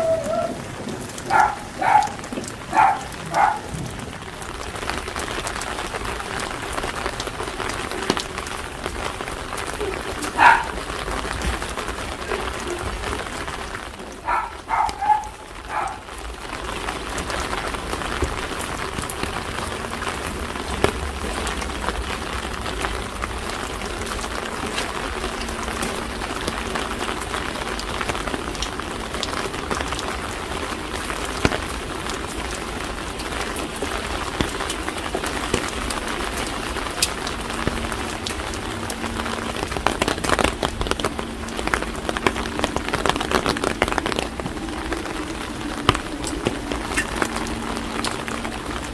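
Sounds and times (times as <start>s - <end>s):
drips ticking: 0.0s - 48.9s
steady rain: 0.0s - 48.9s.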